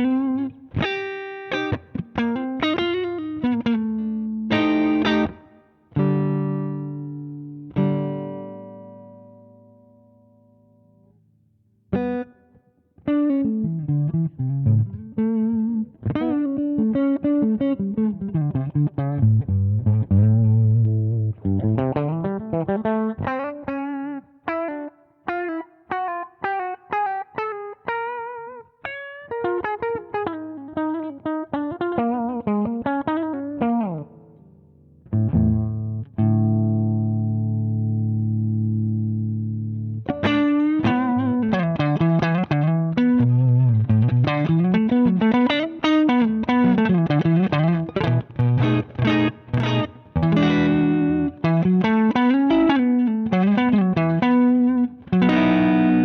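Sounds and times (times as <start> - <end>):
overdriven electric guitar: 0.0 - 11.2, 11.9 - 56.0.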